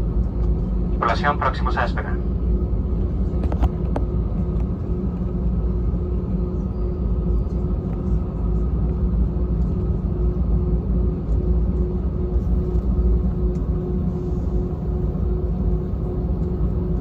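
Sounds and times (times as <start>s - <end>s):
airplane cabin rumble: 0.0s - 17.0s
faint pulsing hum: 0.0s - 17.0s.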